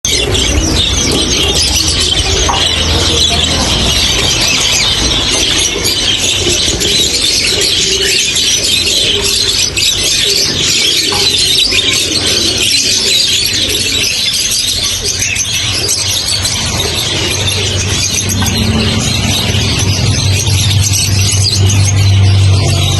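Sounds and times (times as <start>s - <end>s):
parrots chattering and screeching: 0.0s - 22.9s.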